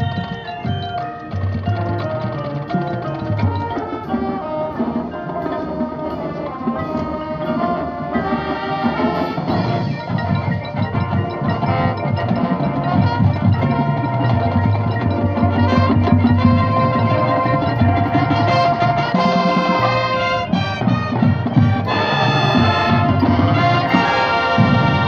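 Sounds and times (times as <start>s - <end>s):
band playing music: 0.0s - 25.0s.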